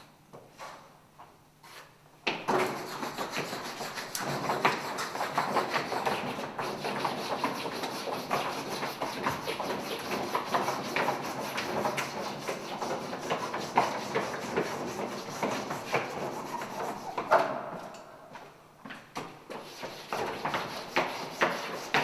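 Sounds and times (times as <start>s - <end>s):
chalk scraping on a blackboard: 1.6s - 17.3s, 19.5s - 22.0s.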